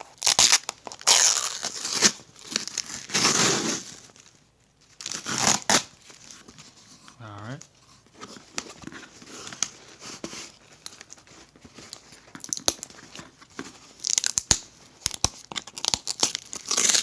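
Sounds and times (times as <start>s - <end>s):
packaging tearing and crinkling: 0.0s - 6.4s, 9.1s - 17.0s.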